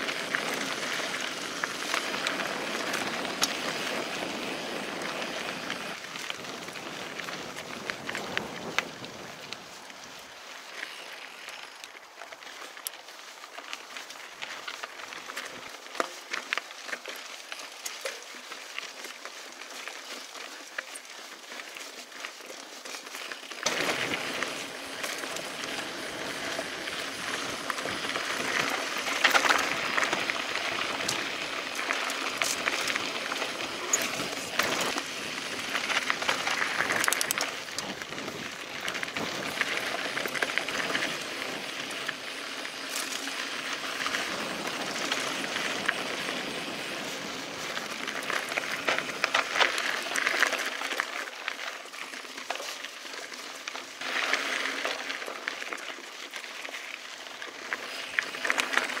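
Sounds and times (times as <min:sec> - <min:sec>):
bike rattling: 0:00.0 - 0:59.0
tyres crunching on gravel: 0:00.0 - 0:59.0.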